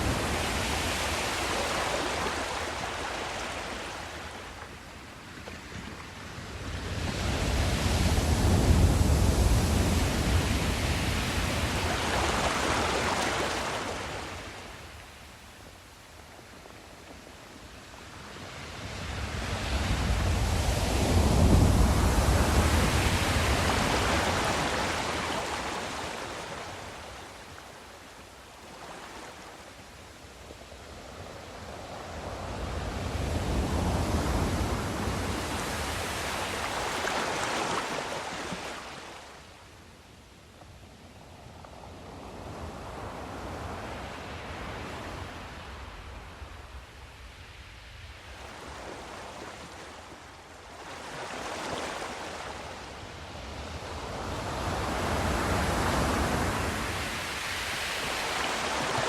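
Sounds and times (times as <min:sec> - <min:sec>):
sea waves washing in: 0:00.0 - 0:39.7, 0:41.6 - 0:59.0.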